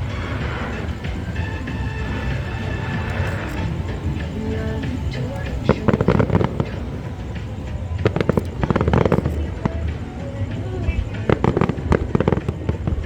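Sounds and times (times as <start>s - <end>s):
fireworks bursting and crackling: 0.0s - 13.0s
steady low rumble: 0.0s - 13.0s.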